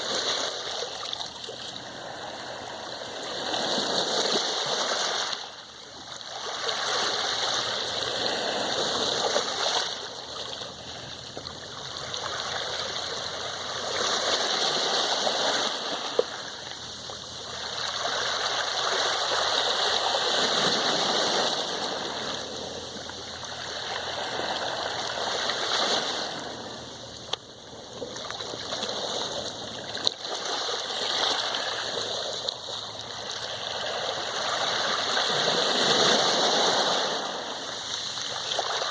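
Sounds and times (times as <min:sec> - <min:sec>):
sea waves washing: 0:00.0 - 0:38.9.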